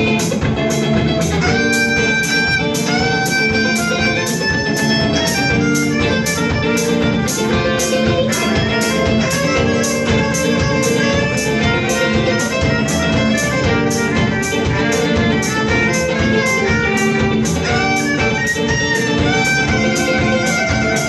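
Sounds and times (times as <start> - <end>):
electric guitar: 0.0 - 21.0
fiddle: 0.0 - 21.0.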